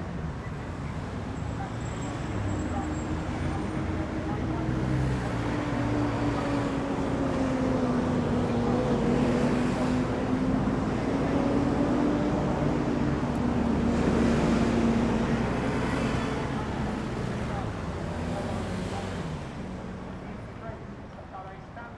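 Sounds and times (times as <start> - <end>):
city street noise: 0.0 - 21.9
vehicle engine drone: 0.9 - 21.9.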